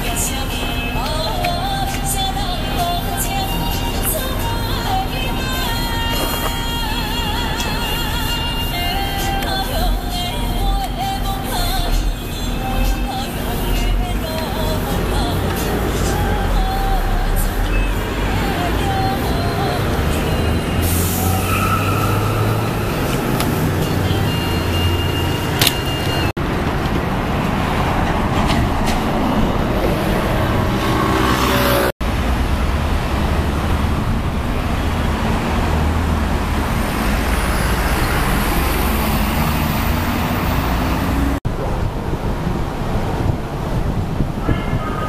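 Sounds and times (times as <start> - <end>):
road traffic passing: 0.0 - 45.0.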